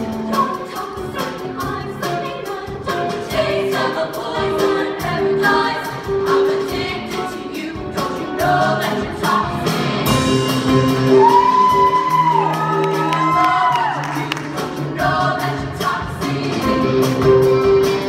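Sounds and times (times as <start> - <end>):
female choir singing pop: 0.0 - 10.4, 13.2 - 17.4.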